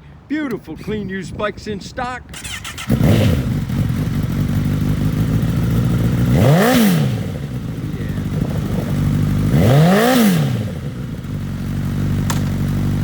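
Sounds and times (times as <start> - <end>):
motorcycle engine idling and revving: 2.3 - 13.0.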